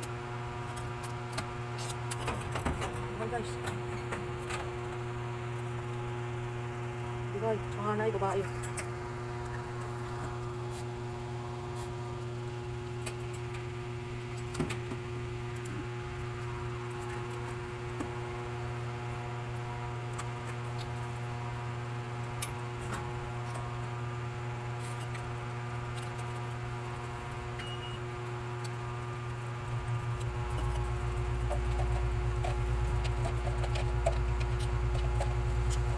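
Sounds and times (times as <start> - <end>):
steady machine hum: 0.0 - 35.9.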